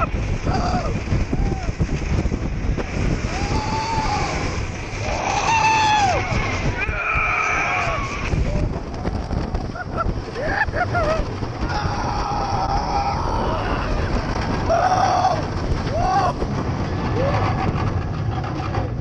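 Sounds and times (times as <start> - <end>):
riders screaming and whooping: 0.0 - 17.8
wind buffeting microphone: 0.0 - 19.0.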